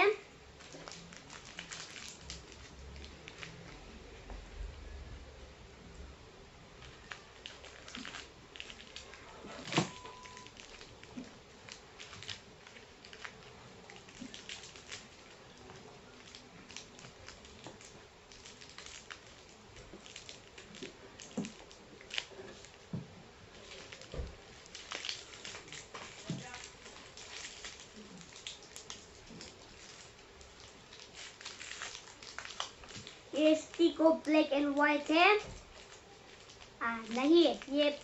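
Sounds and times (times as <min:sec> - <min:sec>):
plastic wrappers crinkling: 0:00.0 - 0:04.3, 0:06.7 - 0:38.0.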